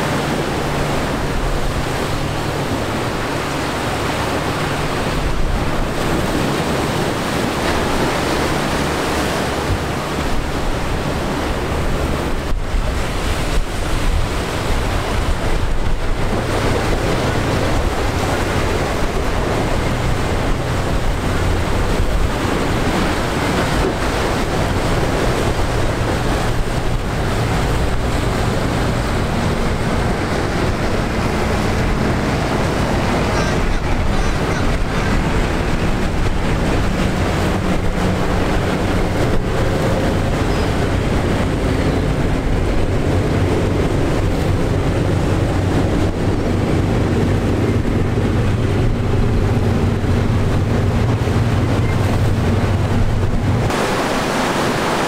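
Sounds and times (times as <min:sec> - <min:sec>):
boat engine humming: 0:00.0 - 0:55.0
surf washing: 0:00.0 - 0:55.0
wind buffeting microphone: 0:00.0 - 0:55.0.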